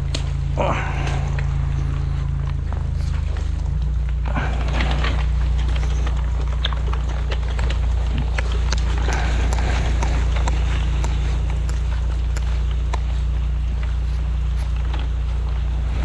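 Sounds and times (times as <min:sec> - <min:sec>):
drain jetter droning: 0:00.0 - 0:16.0.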